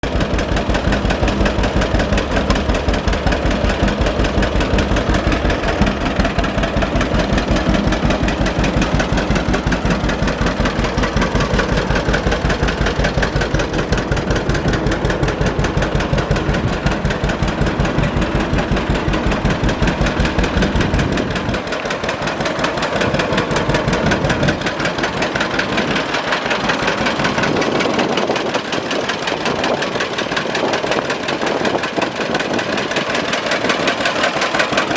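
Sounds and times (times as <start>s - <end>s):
tractor engine popping exhaust: 0.0s - 34.9s.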